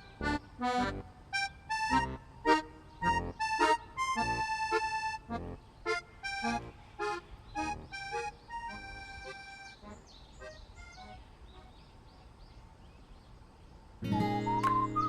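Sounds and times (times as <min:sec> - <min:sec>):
accordion-like background music: 0:00.0 - 0:11.9, 0:14.0 - 0:15.0.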